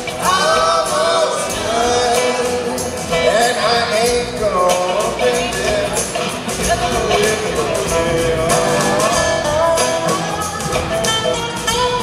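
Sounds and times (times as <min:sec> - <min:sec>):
drums: 0:00.0 - 0:12.0
live blues band: 0:00.0 - 0:12.0
slide guitar: 0:00.0 - 0:12.0.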